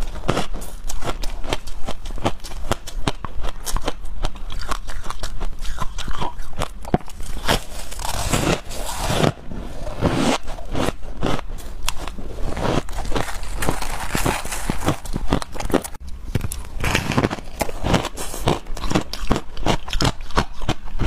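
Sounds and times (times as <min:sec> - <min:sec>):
ice being chewed: 0:00.0 - 0:21.0.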